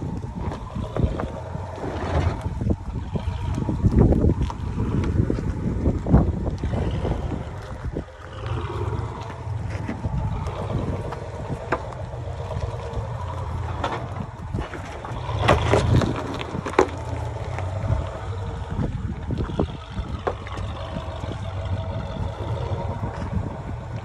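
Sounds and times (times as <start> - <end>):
engine droning low: 0.0 - 24.0
rocks crunching under tyres: 0.0 - 24.0.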